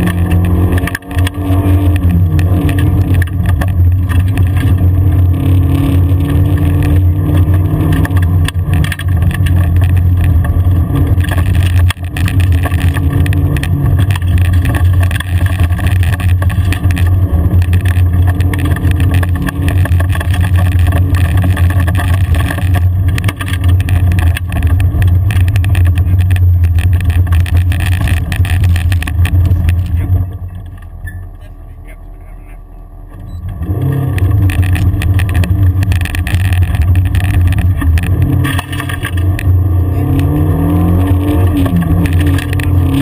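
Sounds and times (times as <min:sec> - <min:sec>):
car engine droning: 0:00.0 - 0:43.0
tyres on gravel: 0:00.0 - 0:43.0.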